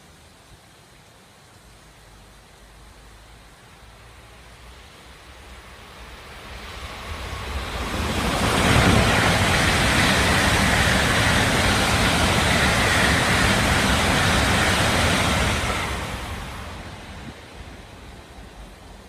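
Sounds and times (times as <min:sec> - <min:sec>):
high-speed train rushing past: 0:03.2 - 0:19.0.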